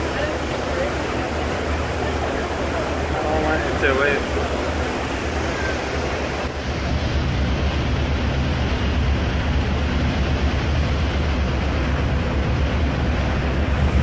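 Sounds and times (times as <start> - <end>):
churning wake: 0.0 - 14.0
ferry engine rumble: 0.0 - 14.0
wind on microphone: 0.0 - 14.0.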